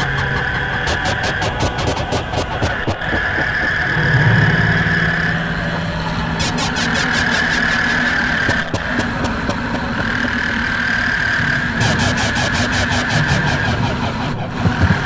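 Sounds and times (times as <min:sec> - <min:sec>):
rapid clicking: 0:00.0 - 0:04.2, 0:06.4 - 0:15.0
low hum: 0:00.0 - 0:15.0
steady high whine: 0:00.0 - 0:15.0.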